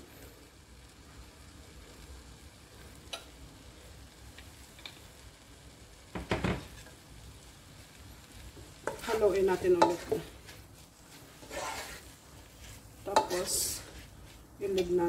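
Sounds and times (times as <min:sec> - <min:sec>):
noodles sizzling in a wok: 0:00.0 - 0:15.0.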